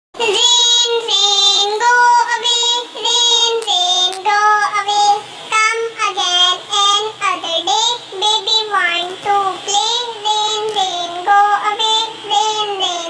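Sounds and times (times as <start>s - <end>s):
child singing: 0.2s - 13.0s.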